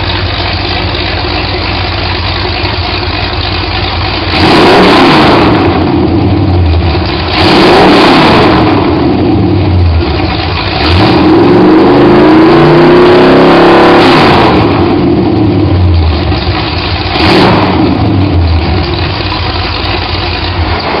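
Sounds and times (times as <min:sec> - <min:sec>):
engine revving and idling: 0:00.0 - 0:21.0.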